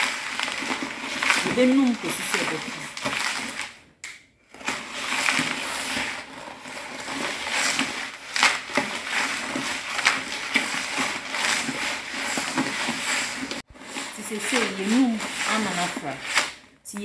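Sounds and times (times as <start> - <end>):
stick scraping gritty mix in bowl: 0.0 - 3.8, 4.5 - 17.0.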